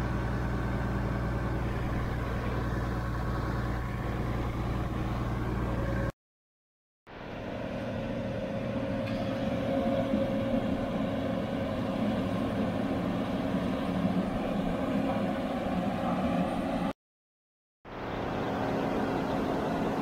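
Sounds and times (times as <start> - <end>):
combine harvester engine drone: 0.0 - 6.1, 7.1 - 16.9, 17.9 - 20.0.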